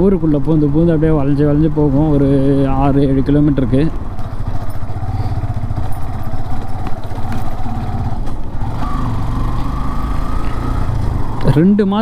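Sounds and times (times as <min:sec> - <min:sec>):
motorcycle engine running: 0:00.5 - 0:12.0.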